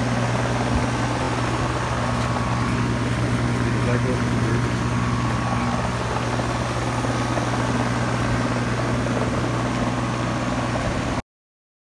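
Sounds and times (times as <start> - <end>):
heat pump unit humming: 0.0 - 11.2.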